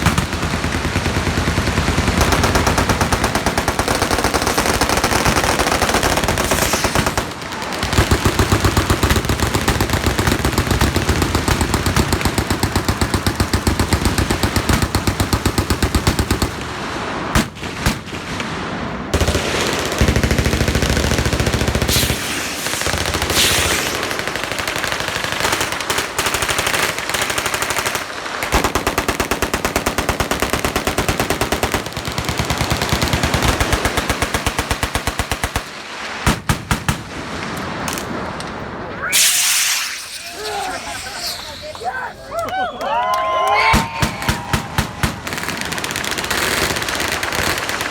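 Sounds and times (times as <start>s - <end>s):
machine guns firing: 0.0s - 16.7s, 19.1s - 37.3s, 43.8s - 47.9s.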